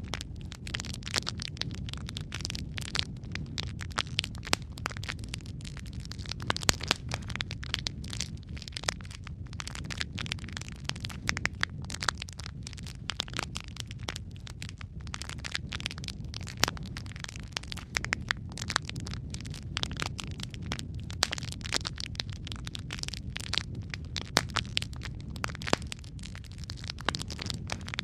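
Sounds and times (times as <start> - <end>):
wood logs burning in fireplace: 0.0 - 28.0.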